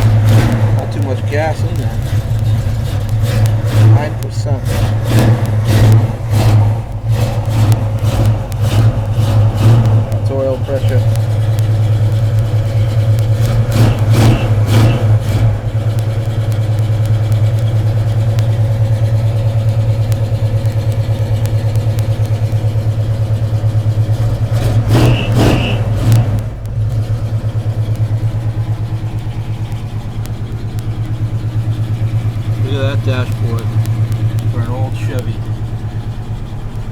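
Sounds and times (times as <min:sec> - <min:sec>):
car engine idling: 0:00.0 - 0:36.9
engine throttle blips: 0:00.0 - 0:36.9.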